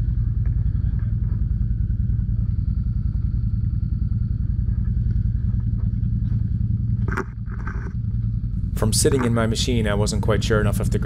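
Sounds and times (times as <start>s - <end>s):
engine low drone: 0.0s - 11.0s.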